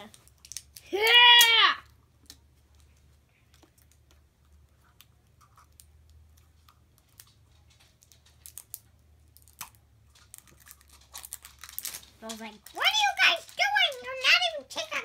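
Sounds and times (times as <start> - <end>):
plastic capsule clicking and crackling: 0.0 - 14.6.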